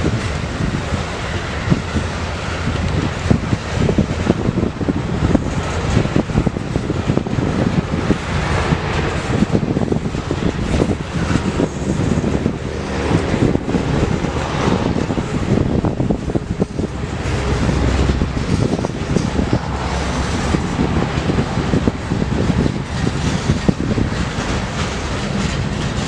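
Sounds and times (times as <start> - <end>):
freight train rumbling: 0.0 - 26.0
wheels clattering on rails: 0.0 - 26.0.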